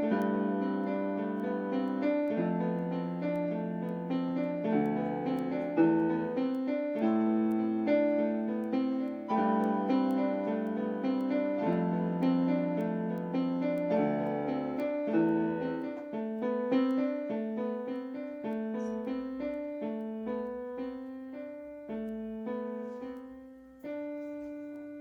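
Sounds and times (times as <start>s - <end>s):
piano keyboard playing: 0.0s - 25.0s.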